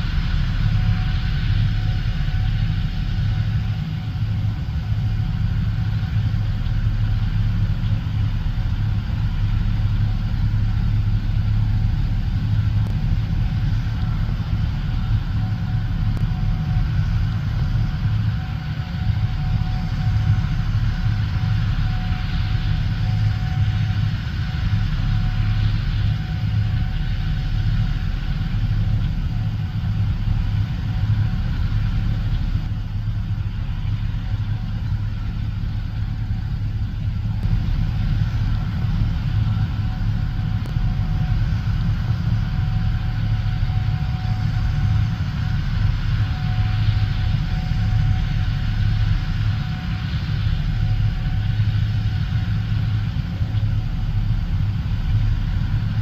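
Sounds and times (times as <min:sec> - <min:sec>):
combine harvester engine humming: 0:00.0 - 0:56.0
faint steady whine: 0:00.0 - 0:56.0.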